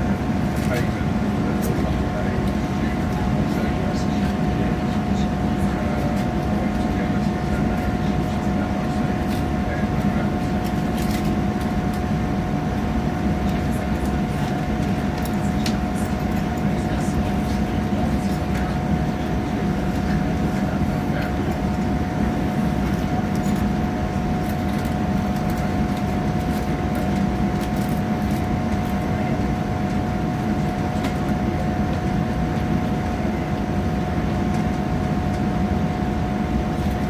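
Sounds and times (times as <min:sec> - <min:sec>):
constant whine: 0:00.0 - 0:37.0
train rumble inside carriage: 0:00.0 - 0:37.0.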